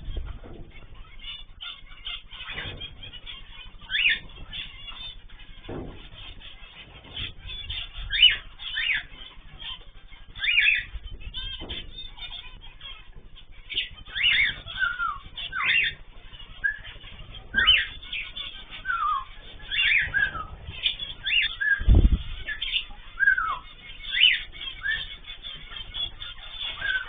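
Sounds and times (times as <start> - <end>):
cage birds chirping: 0.0 - 27.0.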